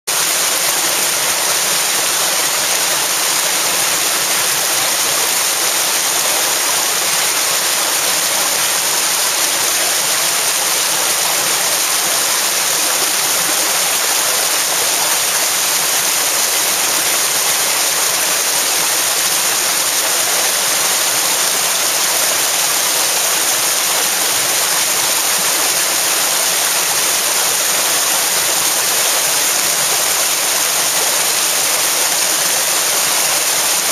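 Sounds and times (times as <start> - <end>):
river rapids rushing over rocks: 0.1 - 33.9.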